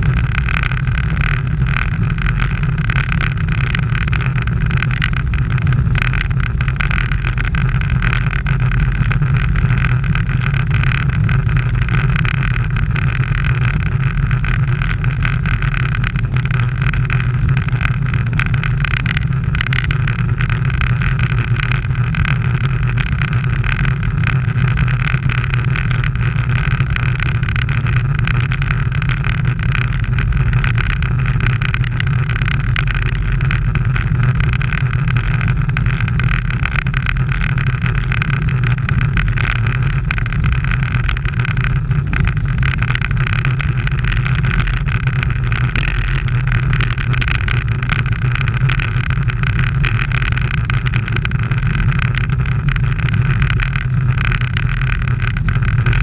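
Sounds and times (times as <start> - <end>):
wind rumble: 0.0 - 56.0.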